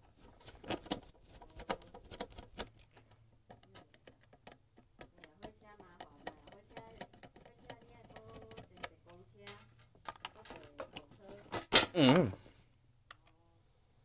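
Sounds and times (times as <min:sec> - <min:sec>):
small clicks of parts handled: 0:00.6 - 0:11.9, 0:13.1 - 0:13.4.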